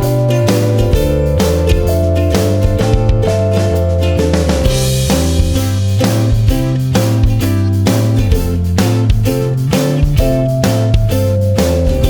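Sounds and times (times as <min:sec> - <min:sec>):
background music with drums and guitar: 0:00.0 - 0:12.0.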